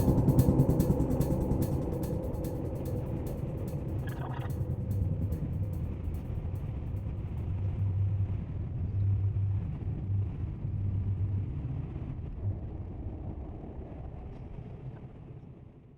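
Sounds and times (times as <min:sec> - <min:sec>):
turboprop cabin rumble: 0:00.0 - 0:14.7.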